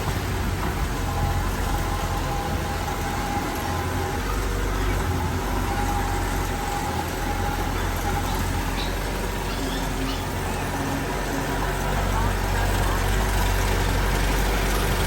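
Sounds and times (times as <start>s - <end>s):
diesel engine droning: 0.0s - 15.0s
thin steady whine: 0.0s - 15.0s.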